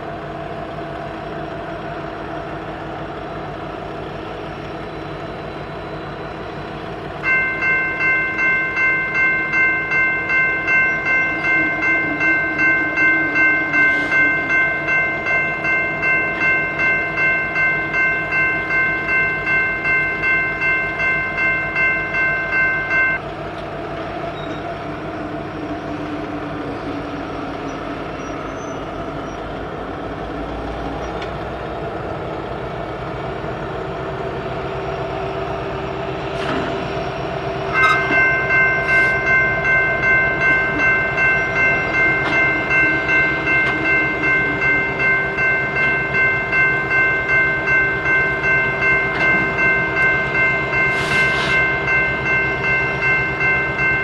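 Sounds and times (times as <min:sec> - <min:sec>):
diesel locomotive rumble: 0:00.0 - 0:54.0
railroad crossing bell ringing: 0:00.2 - 0:23.3, 0:24.1 - 0:54.0.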